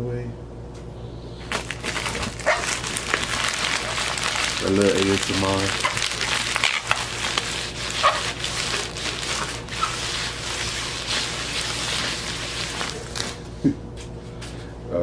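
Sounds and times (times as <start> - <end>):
bubble wrap crinkling: 1.4 - 13.6.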